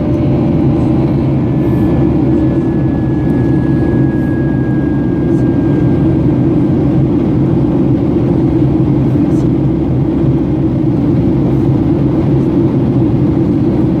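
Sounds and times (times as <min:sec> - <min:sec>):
airliner engine drone: 0:00.0 - 0:14.0.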